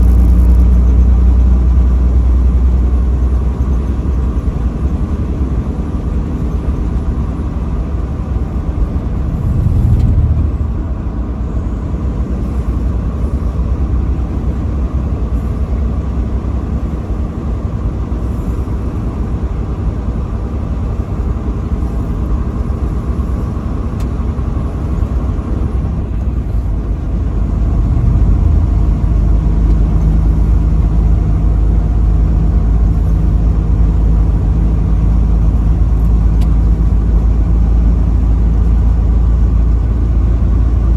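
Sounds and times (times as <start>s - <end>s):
road noise: 0.0s - 40.9s
truck engine rumble: 0.0s - 40.9s.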